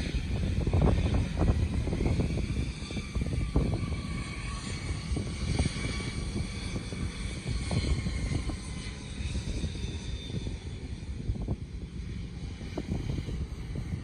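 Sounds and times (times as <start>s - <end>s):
jet engines whining: 0.0s - 14.0s.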